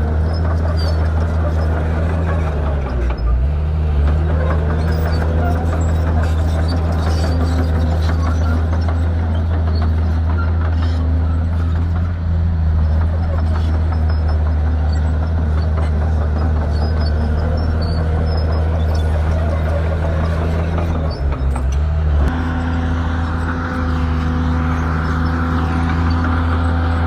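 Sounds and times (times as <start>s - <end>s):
bulldozer diesel engine running: 0.0s - 27.0s.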